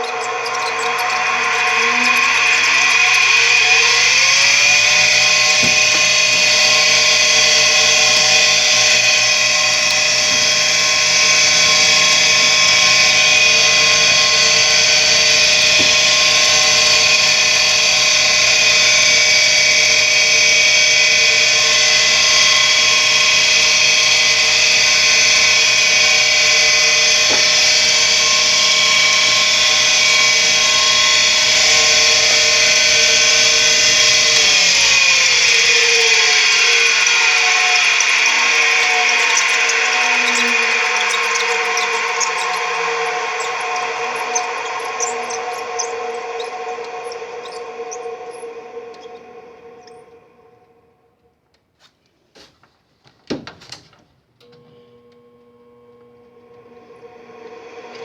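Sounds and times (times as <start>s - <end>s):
motor running with high whine: 0.0s - 50.8s.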